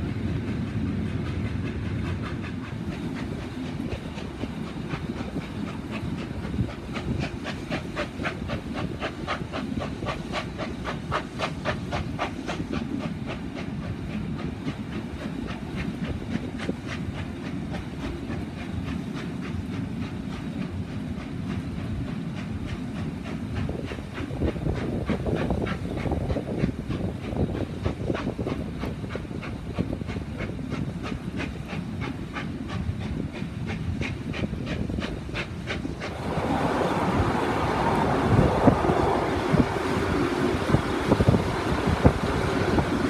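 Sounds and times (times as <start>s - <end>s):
wind on microphone: 0.0s - 19.8s, 22.6s - 43.0s
steam locomotive exhaust beats: 0.0s - 43.0s.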